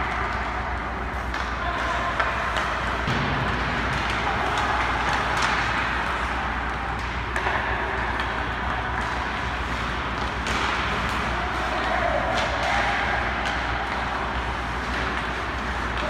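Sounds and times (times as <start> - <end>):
hockey sticks and pucks clacking: 0.0 - 16.0
low arena hum: 0.0 - 16.0
skates scraping on ice: 1.1 - 16.0.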